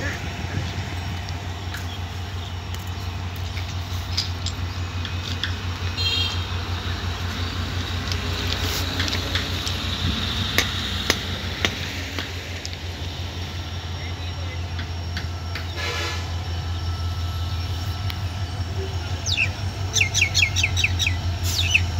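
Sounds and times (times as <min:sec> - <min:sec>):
distant diesel locomotive engine: 0:00.0 - 0:21.9.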